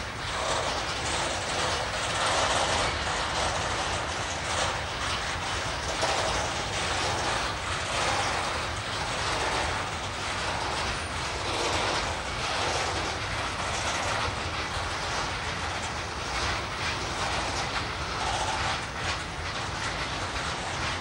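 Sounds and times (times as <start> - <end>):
electric locomotive humming: 0.0 - 21.0
wheels rumbling on rails: 0.0 - 21.0.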